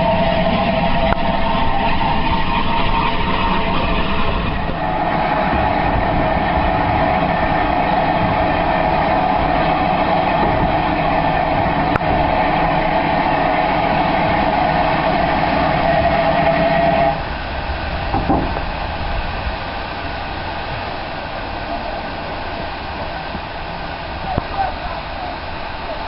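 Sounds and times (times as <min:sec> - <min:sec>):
steam train running: 0:00.0 - 0:26.0.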